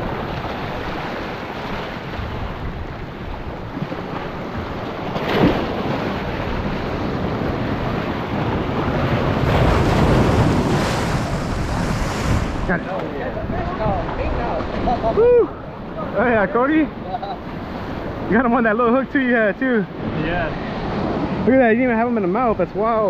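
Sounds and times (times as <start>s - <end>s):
wind buffeting microphone: 0.0s - 18.5s
surf washing over rocks: 0.0s - 23.0s.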